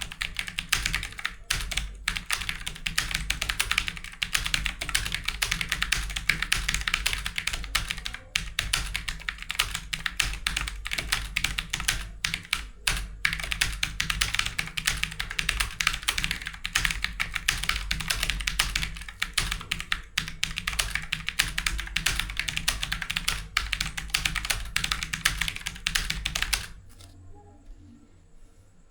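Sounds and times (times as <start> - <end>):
fast typing on a keyboard: 0.0 - 26.9.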